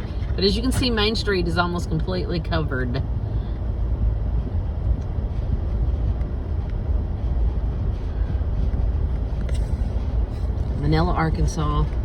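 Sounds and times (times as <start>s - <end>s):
tyres on snowy road: 0.0s - 12.0s
vehicle engine rumble from cabin: 0.0s - 12.0s.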